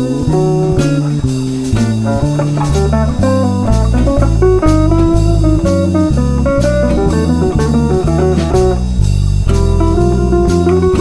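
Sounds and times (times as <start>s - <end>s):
guitar-led tune with drums: 0.0s - 11.0s.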